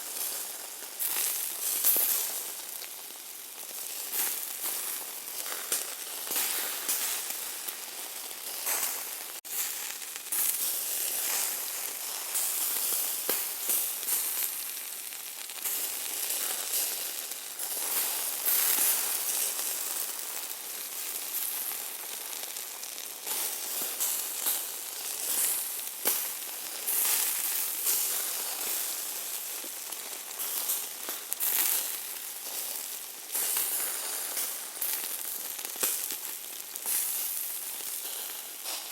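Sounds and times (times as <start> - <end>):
meat sizzling with crackling pops: 0.0 - 38.9.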